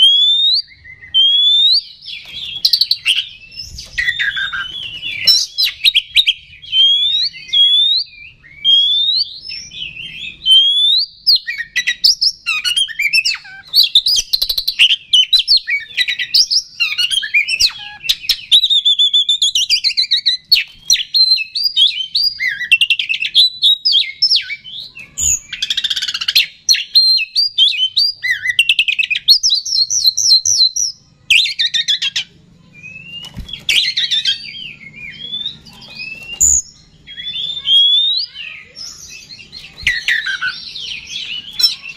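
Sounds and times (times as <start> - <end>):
magpie-robin singing: 0.0 - 41.9.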